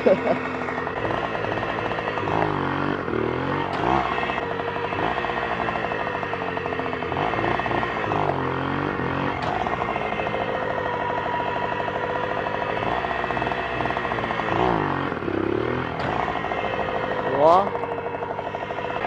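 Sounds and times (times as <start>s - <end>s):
moped engine revving: 0.0s - 19.0s.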